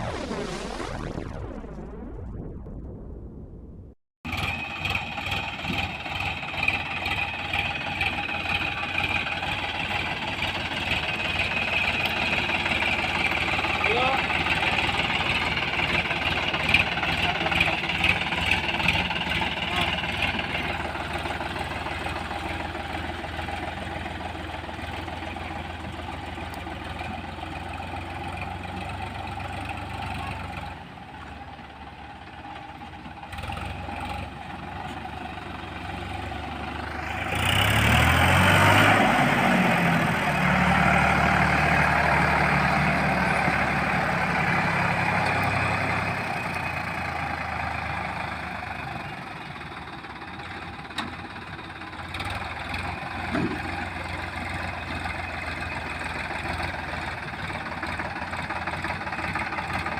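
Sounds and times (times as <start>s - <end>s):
tractor engine revving: 4.2s - 59.9s.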